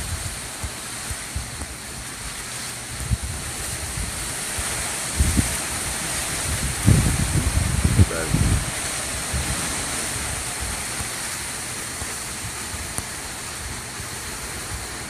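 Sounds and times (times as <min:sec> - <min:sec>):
wind buffeting microphone: 0:00.0 - 0:15.0
wind rushing hiss: 0:00.0 - 0:15.0.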